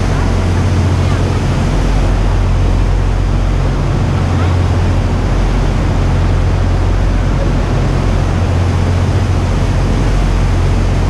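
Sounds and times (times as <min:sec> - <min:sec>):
boat engine humming: 0:00.0 - 0:11.0
rushing water: 0:00.0 - 0:11.0
wind: 0:00.0 - 0:11.0.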